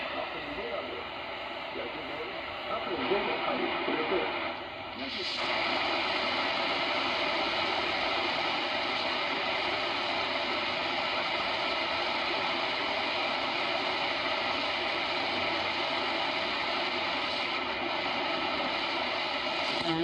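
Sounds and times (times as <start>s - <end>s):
shortwave radio static: 0.0s - 20.0s.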